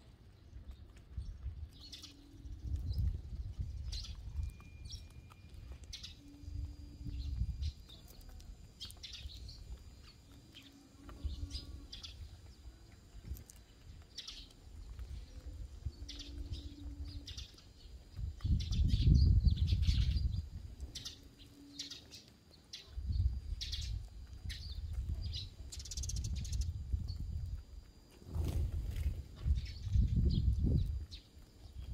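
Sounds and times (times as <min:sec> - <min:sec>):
sparrows chirping: 0:00.4 - 0:27.2, 0:29.4 - 0:31.9.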